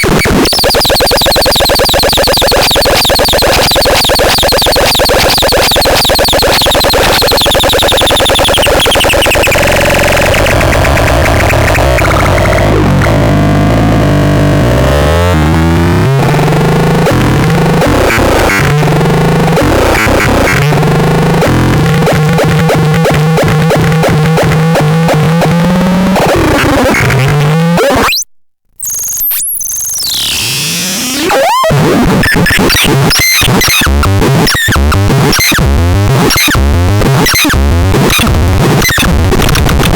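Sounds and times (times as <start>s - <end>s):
rapid stuttering electronic pulses: 0.0s - 28.1s, 28.8s - 39.9s
harsh electronic noise: 0.0s - 28.2s, 28.8s - 39.9s.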